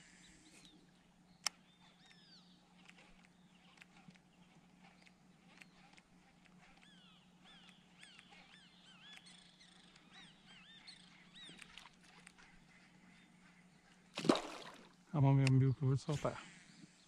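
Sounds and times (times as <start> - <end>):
faint birdsong: 0.0 - 17.0
low steady hum: 0.0 - 17.0.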